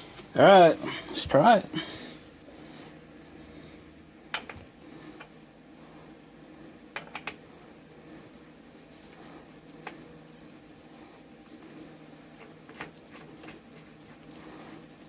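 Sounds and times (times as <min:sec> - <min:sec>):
faint room noise: 0:00.0 - 0:15.0.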